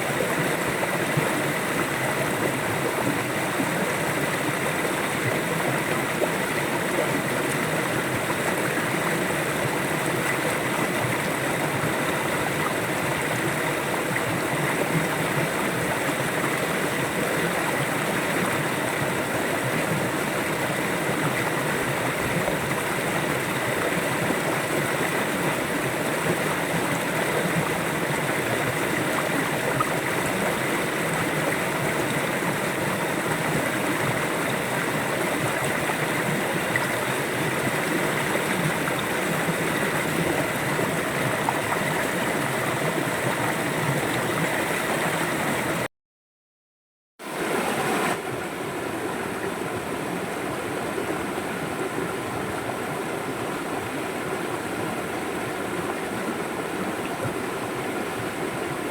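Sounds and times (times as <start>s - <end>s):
water flowing over rocks: 0.0s - 45.9s, 47.2s - 58.9s.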